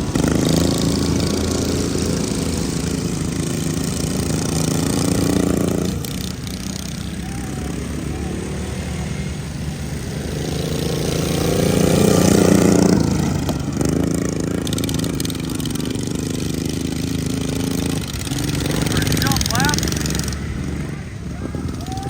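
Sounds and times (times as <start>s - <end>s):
racing lawn mower engines: 0.0s - 22.0s.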